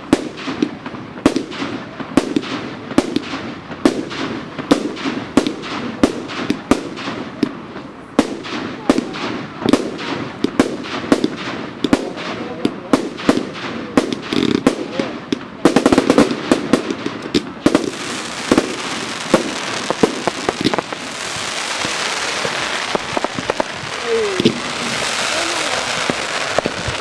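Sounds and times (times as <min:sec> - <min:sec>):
fireworks bangs and crackles: 0:00.0 - 0:27.0
steady hiss: 0:02.7 - 0:27.0.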